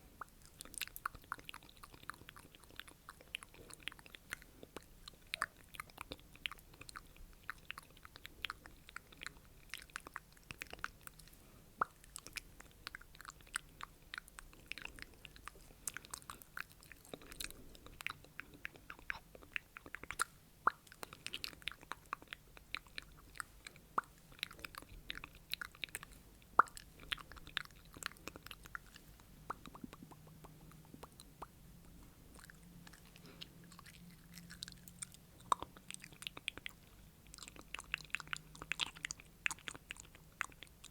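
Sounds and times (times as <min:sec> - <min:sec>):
wet lip and tongue clicks: 0:00.0 - 0:40.9.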